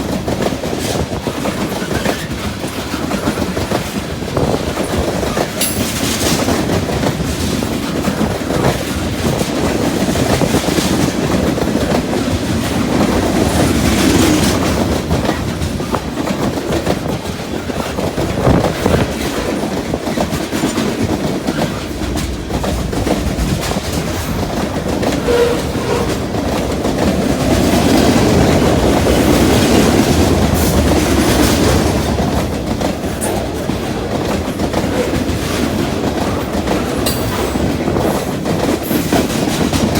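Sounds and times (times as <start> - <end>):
train wheels rumbling on rail: 0.0 - 39.9
wheels clacking over rail joints: 0.0 - 39.9.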